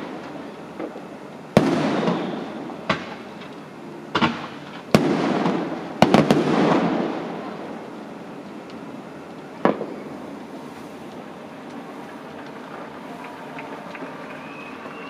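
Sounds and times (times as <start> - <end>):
fireworks bangs: 0.0 - 8.0, 9.6 - 15.0
fireworks crackling: 0.0 - 15.0.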